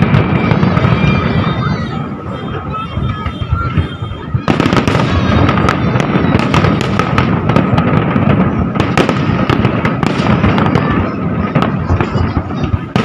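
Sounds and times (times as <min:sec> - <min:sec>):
fireworks cracks and pops: 0:00.0 - 0:13.0.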